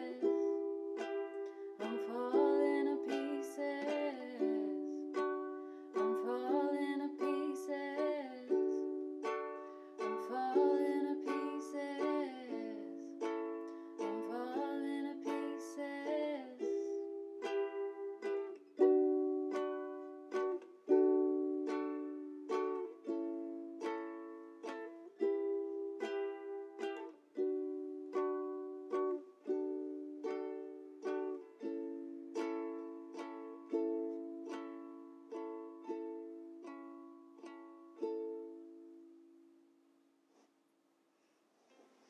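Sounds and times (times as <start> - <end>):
ukulele strumming chords: 0.0 - 40.0.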